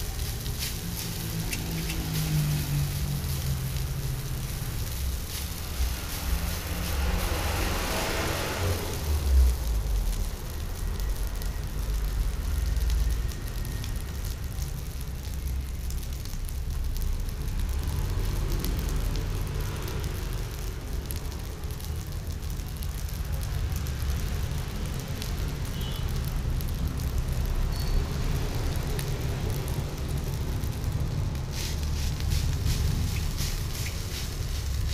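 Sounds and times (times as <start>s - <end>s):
gas burner rumbling: 0.0s - 34.9s.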